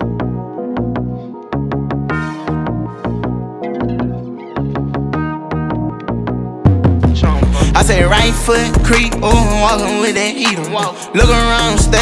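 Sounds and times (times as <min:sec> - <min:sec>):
rap beat with deep bass: 0:00.0 - 0:12.0.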